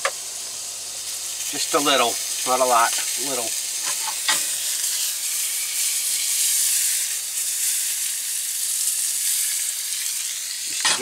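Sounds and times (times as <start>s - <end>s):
sausages sizzling in skillet: 0.0s - 11.0s.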